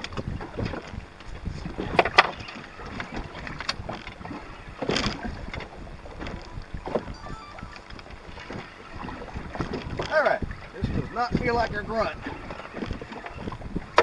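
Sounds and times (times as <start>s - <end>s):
water slapping against hull: 0.0s - 14.0s
wind buffeting microphone: 0.0s - 14.0s.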